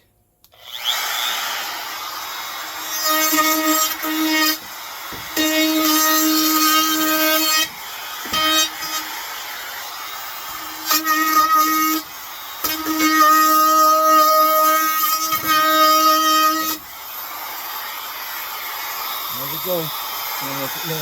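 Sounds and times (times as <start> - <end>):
wood router cutting: 0.4 - 21.0.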